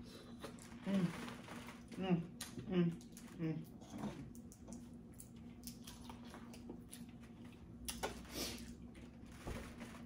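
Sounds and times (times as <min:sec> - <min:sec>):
chewing and handling shellfish: 0:00.1 - 0:09.3.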